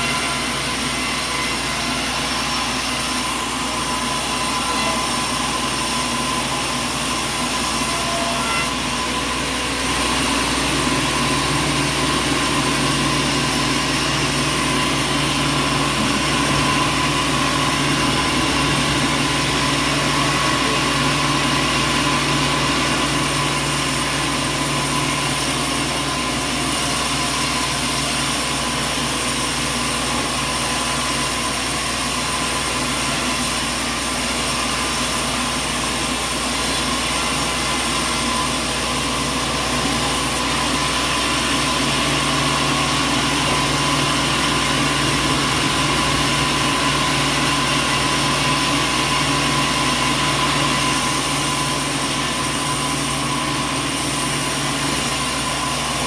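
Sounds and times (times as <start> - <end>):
heavy machinery humming: 0.0 - 56.0.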